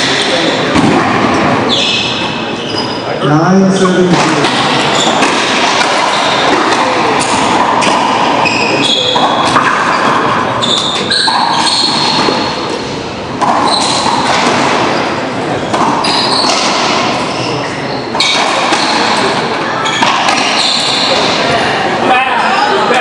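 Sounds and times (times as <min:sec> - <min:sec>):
shoes squeaking on wooden floor: 0:01.3 - 0:21.6.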